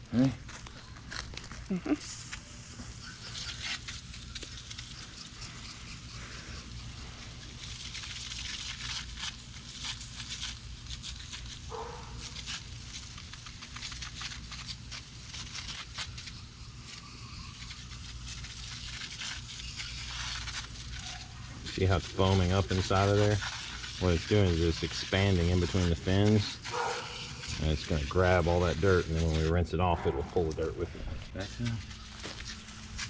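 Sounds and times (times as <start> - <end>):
foam crackling and fizzing: 0.2 - 29.5
spray hissing: 2.0 - 29.4.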